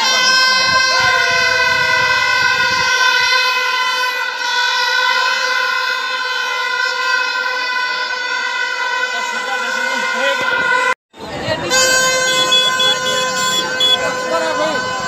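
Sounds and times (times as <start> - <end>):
crowd noise: 0.0 - 15.0
steady horn-like tone: 0.0 - 15.0.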